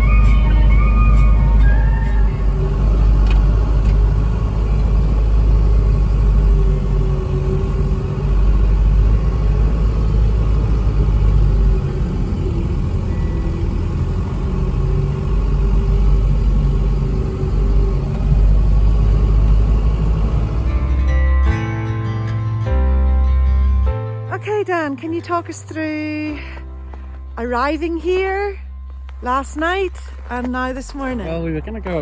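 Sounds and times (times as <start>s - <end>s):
road noise: 0.0s - 32.0s
truck engine rumble: 0.0s - 32.0s.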